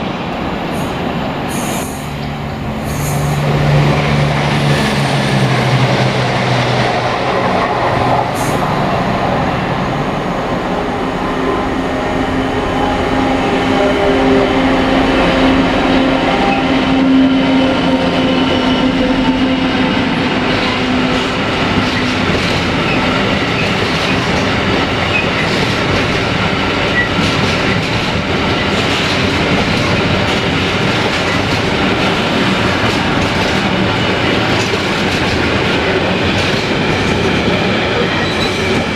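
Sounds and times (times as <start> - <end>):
train wheels rumbling on rails: 0.0 - 38.9
train whine: 0.0 - 38.9.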